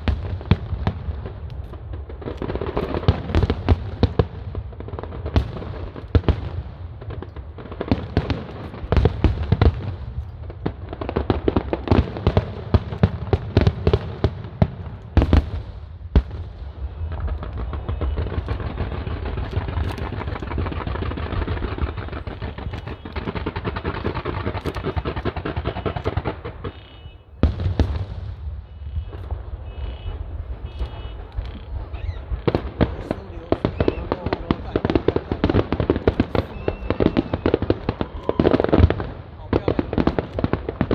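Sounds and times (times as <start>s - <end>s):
firework shells booming: 0.0s - 40.9s
fireworks crackling: 0.0s - 40.9s.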